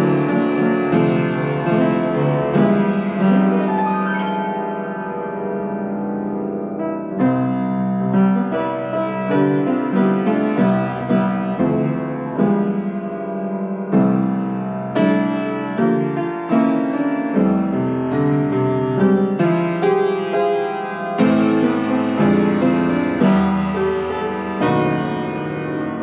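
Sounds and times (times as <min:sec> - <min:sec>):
upright piano playing: 0:00.0 - 0:26.0.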